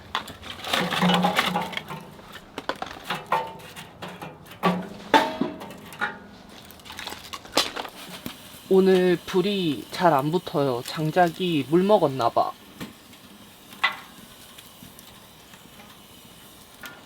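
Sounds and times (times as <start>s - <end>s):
firewood knocking and clacking: 0.0s - 16.0s.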